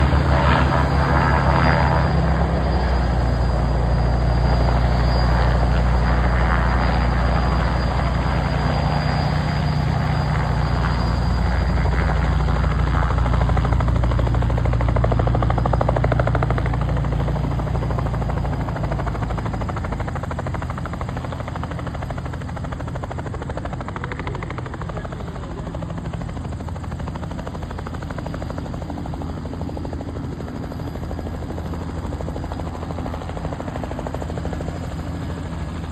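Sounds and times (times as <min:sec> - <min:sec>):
helicopter rotor and engine: 0:00.0 - 0:35.9.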